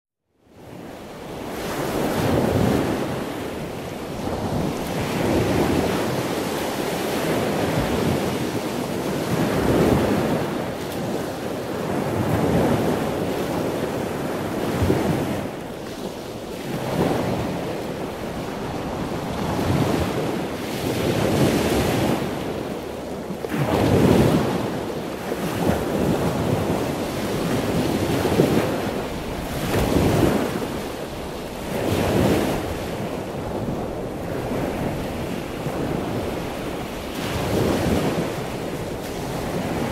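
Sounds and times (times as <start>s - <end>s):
small waves washing over sand: 0.5s - 39.9s
wind buffeting microphone: 0.5s - 39.9s.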